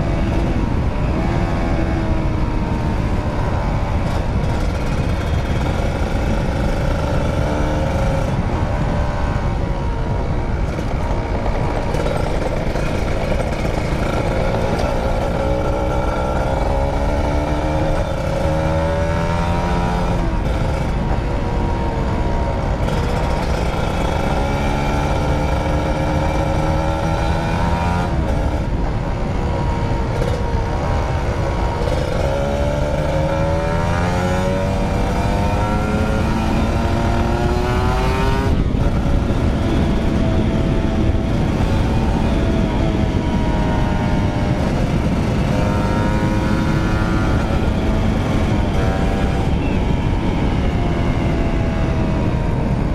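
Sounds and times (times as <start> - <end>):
motorcycle engine revving: 0.0 - 52.9
wind and road noise: 0.0 - 52.9.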